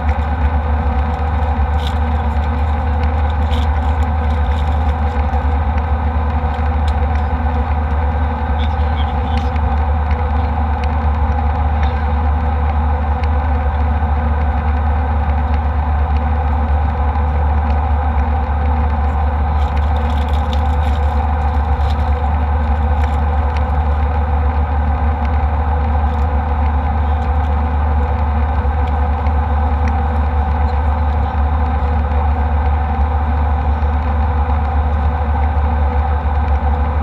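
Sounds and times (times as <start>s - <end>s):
airliner engine rumble: 0.0s - 37.0s.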